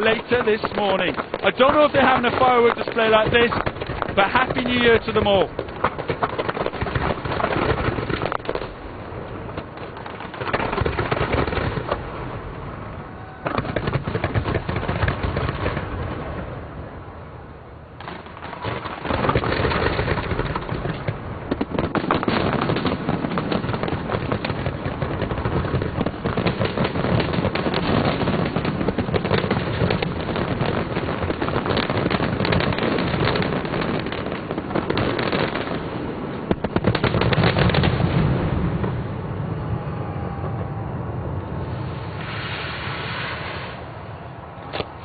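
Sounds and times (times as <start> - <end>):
fireworks bangs and crackling: 0.0 - 17.3, 18.0 - 45.0.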